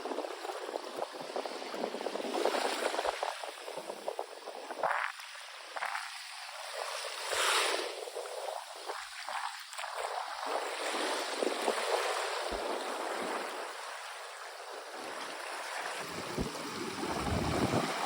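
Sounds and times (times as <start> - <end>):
small waves washing on beach: 0.0 - 18.0.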